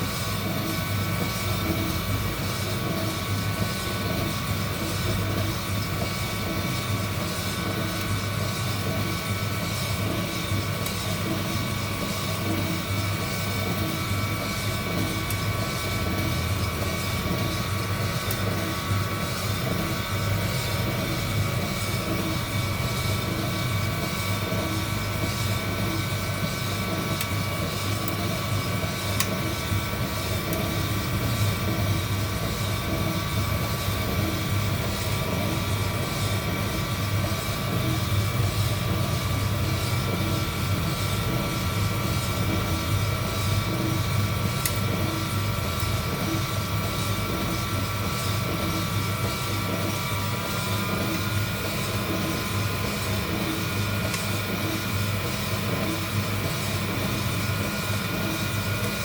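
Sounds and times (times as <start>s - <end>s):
heat gun blower running: 0.0s - 59.0s.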